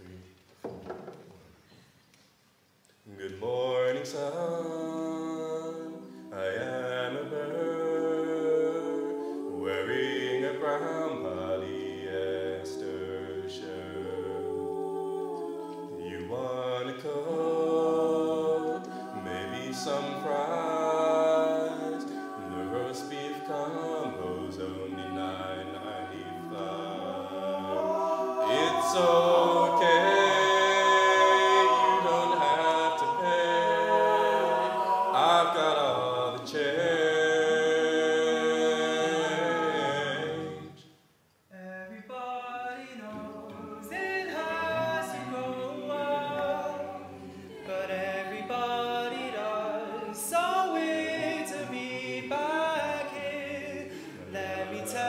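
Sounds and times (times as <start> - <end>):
a cappella group singing: 3.1 - 55.0.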